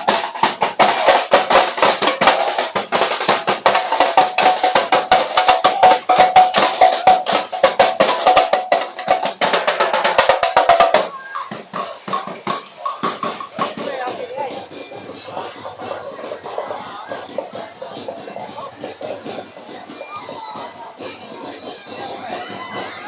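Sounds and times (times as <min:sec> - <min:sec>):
street-dance music with drums: 0:00.0 - 0:23.0.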